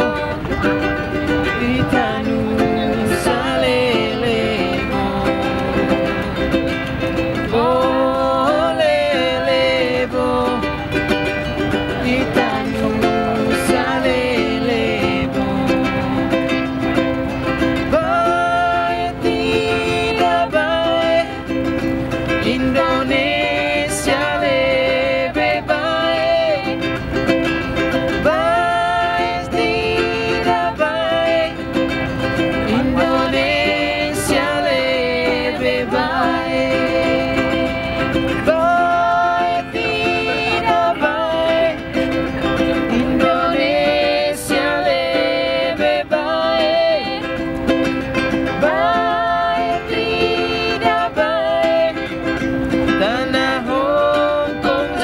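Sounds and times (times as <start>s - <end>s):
man and woman singing: 0.0s - 55.0s
strummed ukulele: 0.0s - 55.0s.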